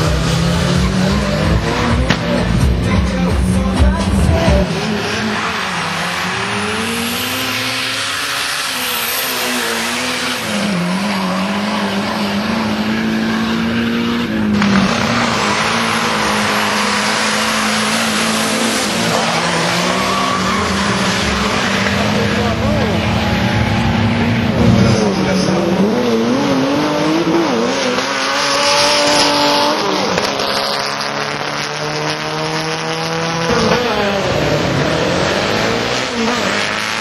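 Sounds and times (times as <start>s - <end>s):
drag racing car engines revving: 0.0s - 37.0s.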